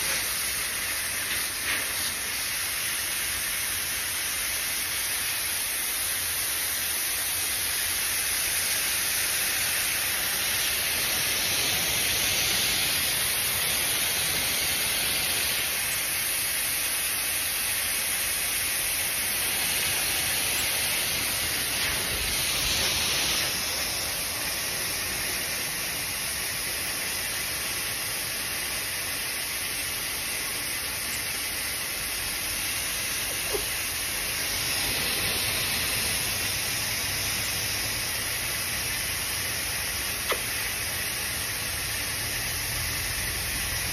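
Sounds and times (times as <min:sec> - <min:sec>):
white noise hiss: 0:00.0 - 0:43.9.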